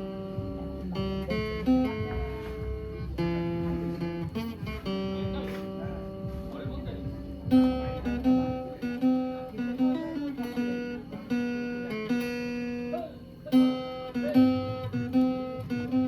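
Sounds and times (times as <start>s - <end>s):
acoustic guitar picking melody: 0.0s - 16.0s.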